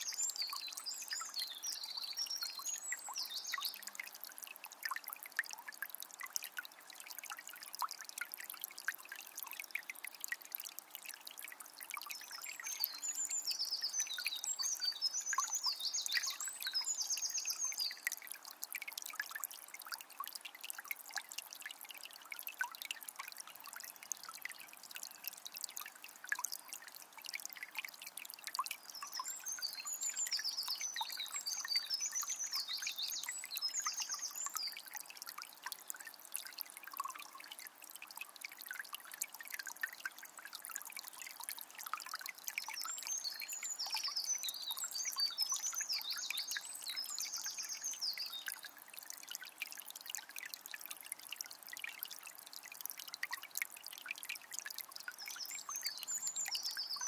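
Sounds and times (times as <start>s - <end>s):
river flowing and trickling: 0.0s - 57.0s.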